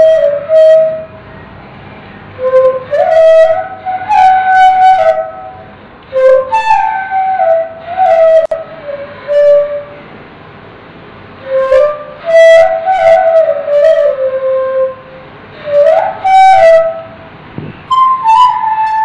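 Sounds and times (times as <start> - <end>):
bamboo flute melody: 0.0 - 10.2, 11.2 - 19.0.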